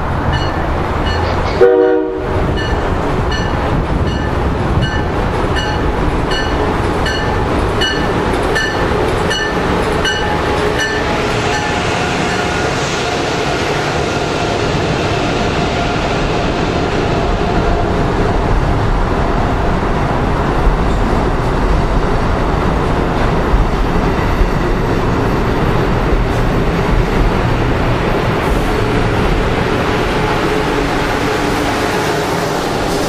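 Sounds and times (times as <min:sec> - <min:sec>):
train wheel and rail rush: 0:00.0 - 0:33.0.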